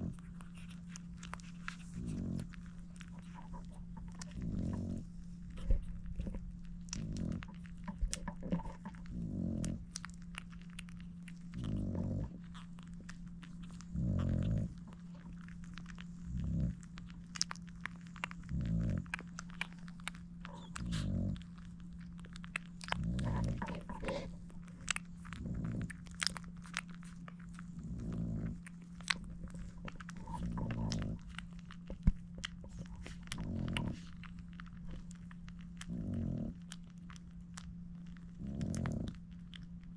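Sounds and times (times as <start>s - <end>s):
puppies suckling: 0.0s - 39.9s.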